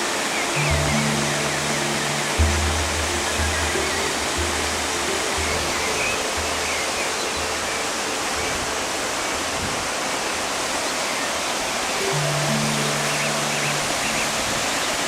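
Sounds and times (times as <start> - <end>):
faint music with low notes: 0.0 - 10.8, 11.6 - 15.0
waterfall rushing: 0.0 - 15.0.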